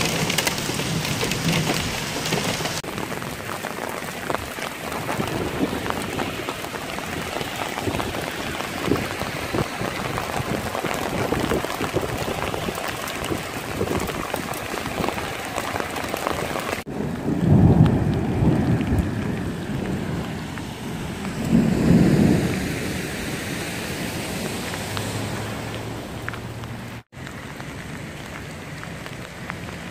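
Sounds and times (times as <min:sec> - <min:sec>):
low rumbles: 0:00.0 - 0:29.7
rain and hail on pavement: 0:00.0 - 0:29.9.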